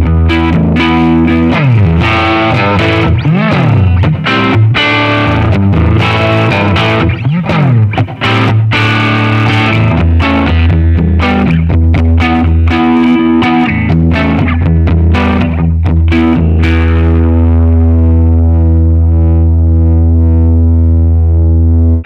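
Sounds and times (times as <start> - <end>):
electric guitar chords with pitch swoops: 0.0 - 22.0.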